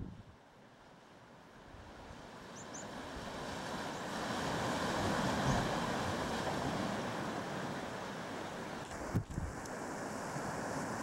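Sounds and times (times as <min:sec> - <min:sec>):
surf washing against rocks: 0:01.9 - 0:11.0.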